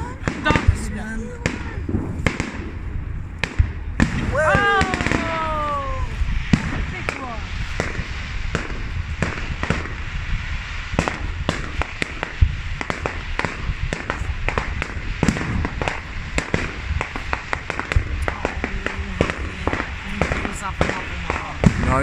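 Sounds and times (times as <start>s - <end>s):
fireworks bangs and crackles: 0.0s - 22.0s
heavy firework thump: 0.0s - 22.0s
low rumble: 0.0s - 22.0s.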